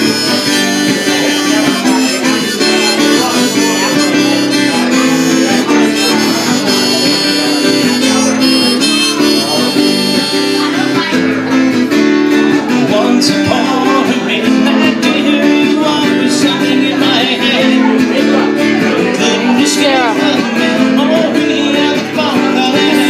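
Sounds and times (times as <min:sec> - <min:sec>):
acoustic guitar strumming: 0:00.0 - 0:23.0
harmonica melody: 0:00.0 - 0:23.0.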